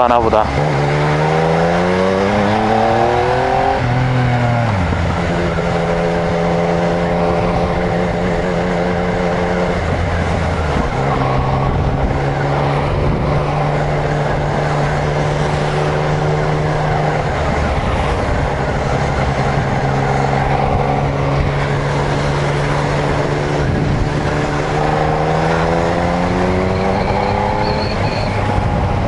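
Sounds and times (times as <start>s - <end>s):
motorcycle engine revving: 0.0s - 29.0s
wind and tyres on wet road: 0.0s - 29.0s.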